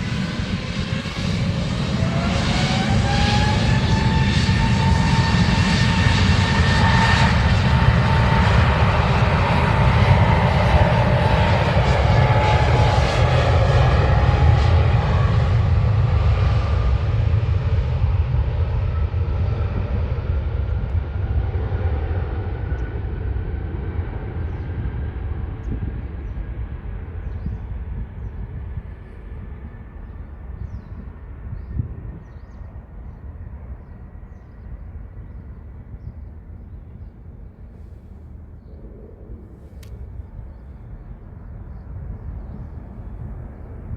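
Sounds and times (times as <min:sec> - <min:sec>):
jet airliner passing: 0:00.0 - 0:43.9.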